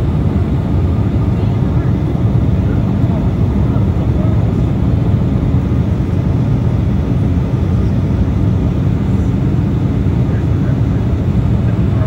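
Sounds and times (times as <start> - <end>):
airliner cabin engine noise: 0.0 - 12.0.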